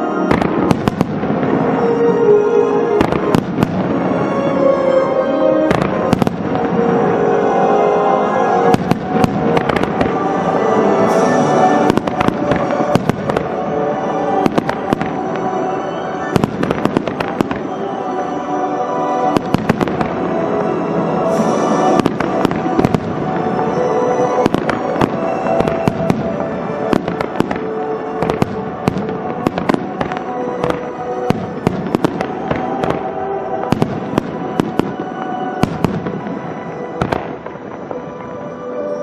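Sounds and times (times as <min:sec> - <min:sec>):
fireworks bursting: 0:00.0 - 0:39.0
music over loudspeakers: 0:00.0 - 0:39.0.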